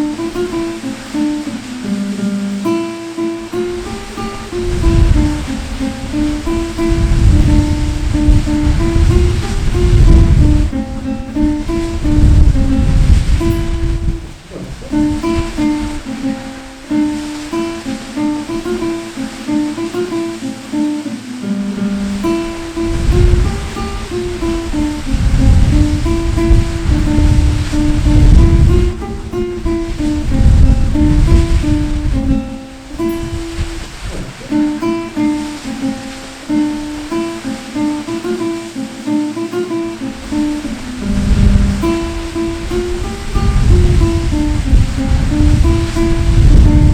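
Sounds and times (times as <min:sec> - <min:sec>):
acoustic guitar slow melody: 0:00.0 - 0:46.9
water rushing: 0:00.0 - 0:46.9.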